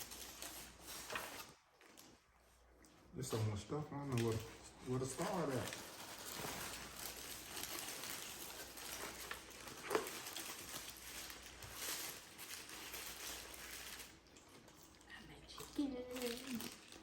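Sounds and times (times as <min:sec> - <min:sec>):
paper wrappers crinkling: 0:00.0 - 0:17.0.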